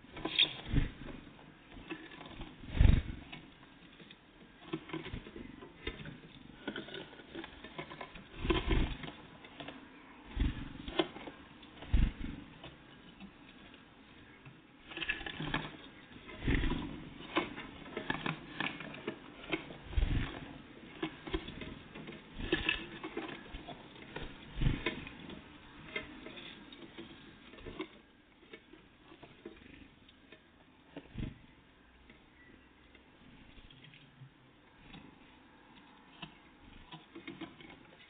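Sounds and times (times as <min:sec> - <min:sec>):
birds pecking at feeder: 0:00.0 - 0:38.0.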